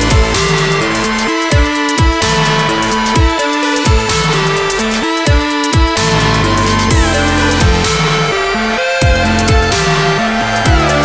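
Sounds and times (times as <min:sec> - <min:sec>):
held synth notes: 0:00.0 - 0:11.0
sliding deep bass notes: 0:00.0 - 0:11.0.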